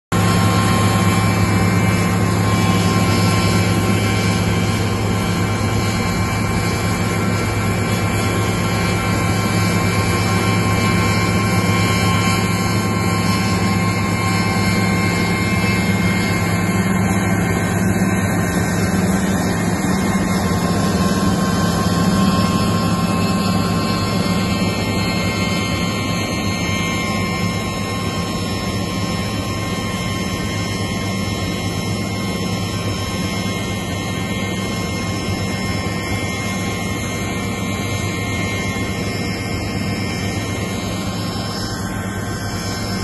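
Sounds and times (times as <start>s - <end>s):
combine harvester engine drone: 0.1s - 43.0s
low hum: 0.1s - 43.0s
faint steady whine: 0.2s - 43.0s.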